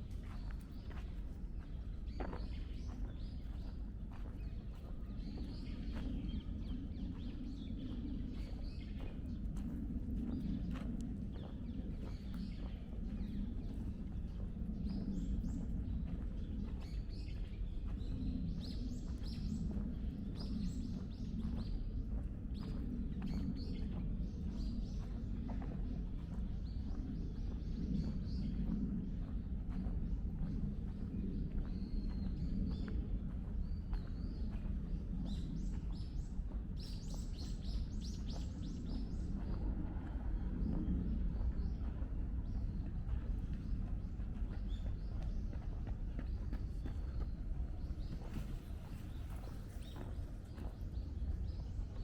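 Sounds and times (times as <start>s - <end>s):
low outdoor rumble: 0.0s - 52.0s.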